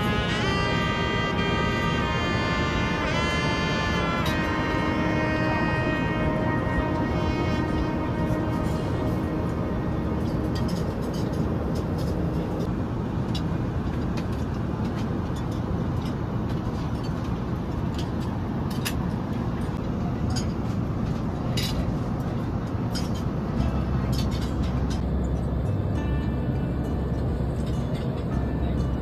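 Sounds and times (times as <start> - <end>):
airliner cabin rushing hum: 0.0 - 25.7.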